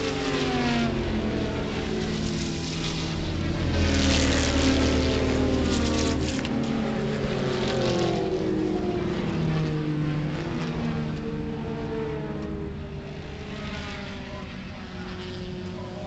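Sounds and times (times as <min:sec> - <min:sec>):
race cars passing at speed: 0:00.0 - 0:16.0.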